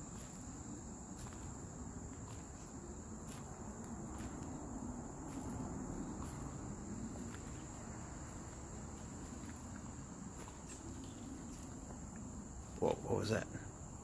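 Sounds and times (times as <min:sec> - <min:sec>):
footsteps crunching on leaves: 0:00.0 - 0:13.0
insects droning: 0:00.0 - 0:14.0.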